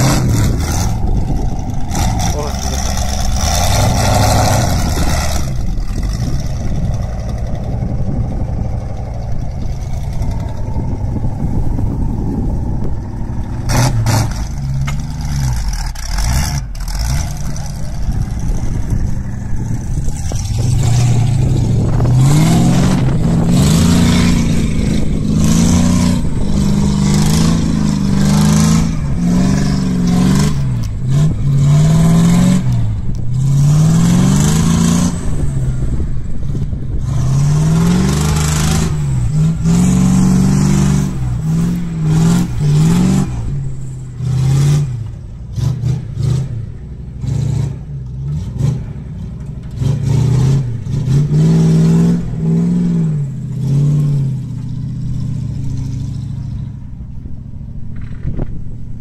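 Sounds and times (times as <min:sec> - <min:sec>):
truck engine labouring: 0:00.0 - 0:59.0.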